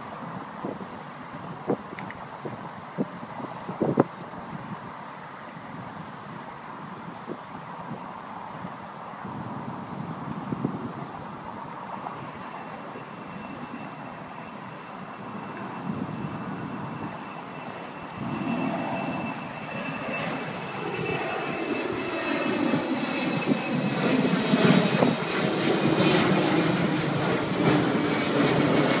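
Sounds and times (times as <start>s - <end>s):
jet engine rumble: 0.0s - 29.0s
jet engine whine: 0.0s - 29.0s.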